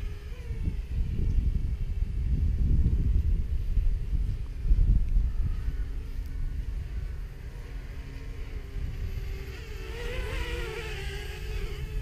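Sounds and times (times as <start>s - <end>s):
drone propeller whine: 0.0s - 2.1s, 3.4s - 12.0s
wind rumble on microphone: 0.0s - 12.0s.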